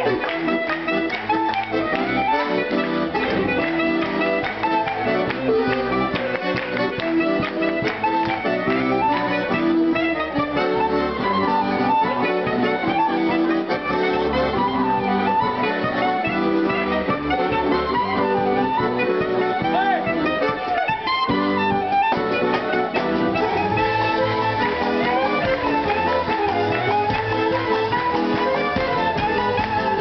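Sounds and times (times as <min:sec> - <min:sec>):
button accordion melody: 0:00.0 - 0:30.0
clarinet melody: 0:00.0 - 0:30.0.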